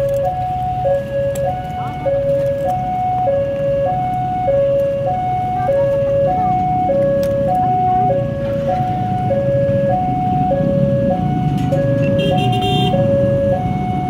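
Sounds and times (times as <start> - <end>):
level crossing two-tone alarm: 0.0 - 14.0.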